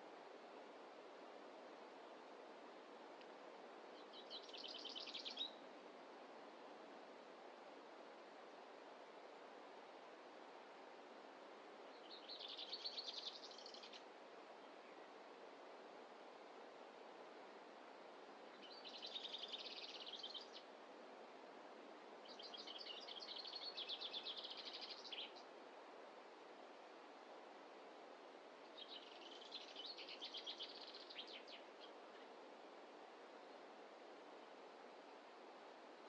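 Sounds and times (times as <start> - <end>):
faint forest ambience: 0.0 - 36.0.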